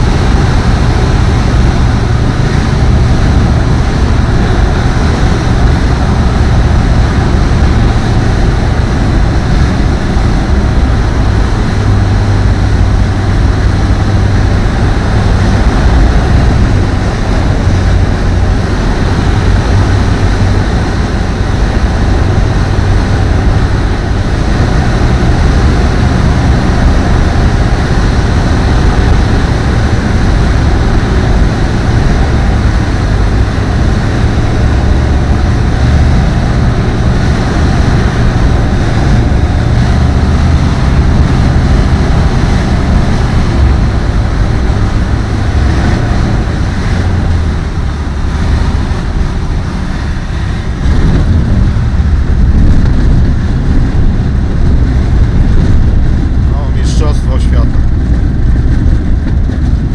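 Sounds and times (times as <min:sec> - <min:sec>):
aircraft engine drone: 0:00.0 - 0:59.9
wind noise: 0:00.0 - 0:59.9.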